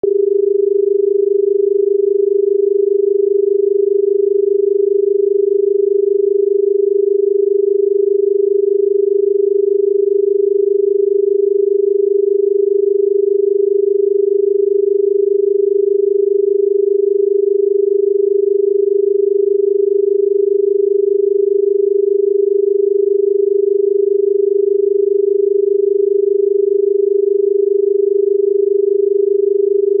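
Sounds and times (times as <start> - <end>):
telephone dial tone: 0.0 - 20.9, 22.9 - 30.0.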